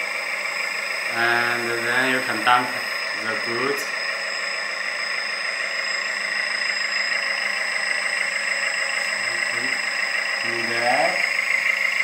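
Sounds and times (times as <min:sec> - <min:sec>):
hydraulic pump humming: 0:00.0 - 0:12.0
simulated diesel engine idling: 0:00.0 - 0:12.0.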